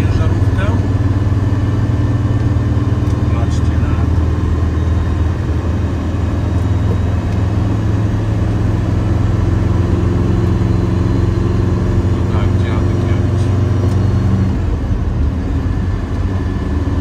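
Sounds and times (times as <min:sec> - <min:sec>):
van engine droning: 0:00.0 - 0:17.0.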